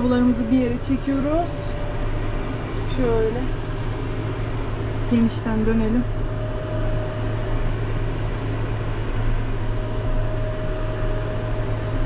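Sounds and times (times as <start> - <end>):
thin steady whine: 0.0 - 12.0
tractor engine droning: 0.0 - 12.0.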